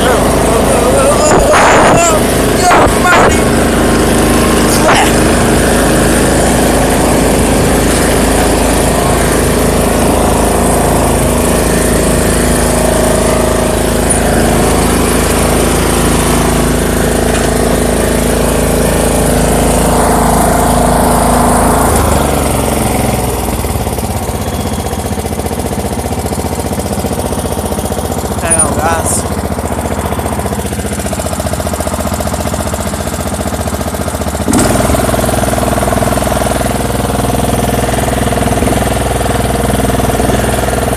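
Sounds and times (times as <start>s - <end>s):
riding lawn mower engine running: 0.0s - 40.9s.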